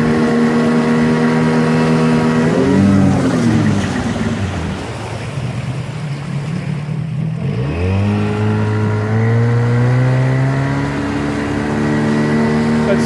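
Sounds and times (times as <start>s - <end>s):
small boat motor running: 0.0s - 13.0s.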